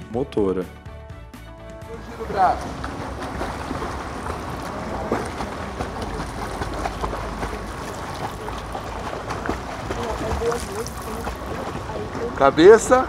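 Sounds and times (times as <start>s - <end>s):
swimmers splashing in a pool: 1.9s - 13.0s.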